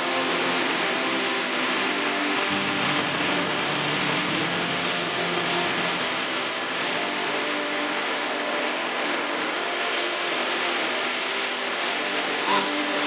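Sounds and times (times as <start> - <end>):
machine running with hiss and hum: 0.0 - 13.0.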